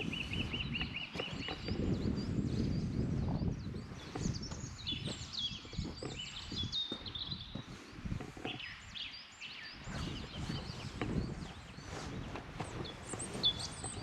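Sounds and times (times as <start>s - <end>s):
footsteps on trail: 0.0s - 2.7s, 3.4s - 14.0s
songbirds chirping and whistling: 0.0s - 14.0s.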